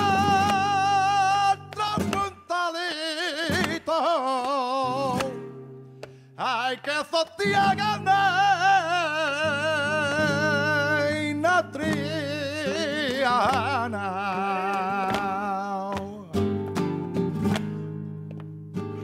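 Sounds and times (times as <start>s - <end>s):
person singing melismatic lament: 0.0s - 5.5s, 6.4s - 16.4s
flamenco guitar: 0.0s - 19.0s.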